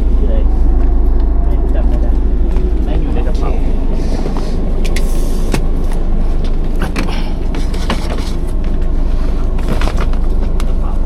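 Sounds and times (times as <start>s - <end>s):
train carriage low rumble: 0.0s - 11.0s.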